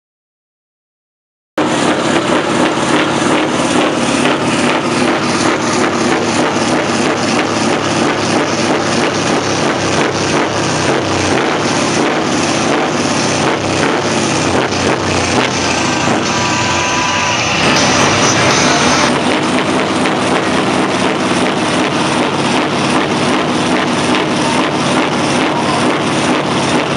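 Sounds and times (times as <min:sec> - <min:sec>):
diesel truck engine revving: 0:01.6 - 0:26.9.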